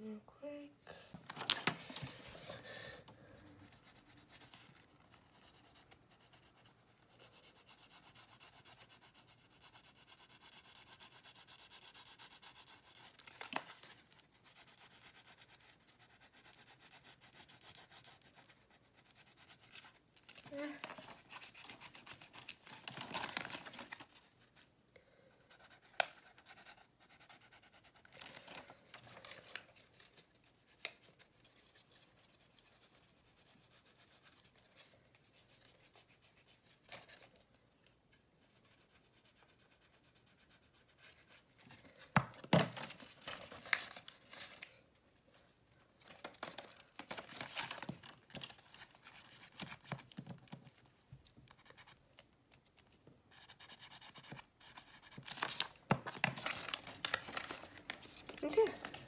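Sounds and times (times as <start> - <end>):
paper rustling and scratching: 1.2 - 2.6, 3.6 - 24.6, 25.5 - 44.7, 46.0 - 50.9, 51.5 - 59.0.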